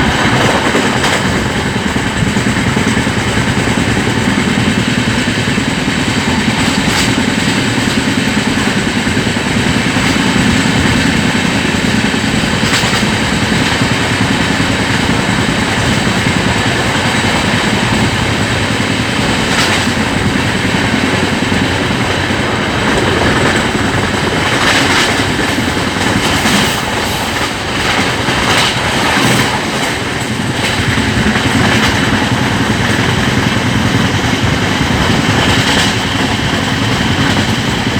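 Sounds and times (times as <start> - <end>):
train coaches rumbling past: 0.0 - 37.9
wheels clattering over rail joints: 0.0 - 37.9.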